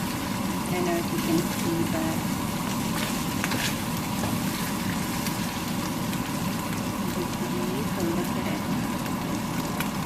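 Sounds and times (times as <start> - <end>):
meat sizzling in a frying pan: 0.0 - 10.0.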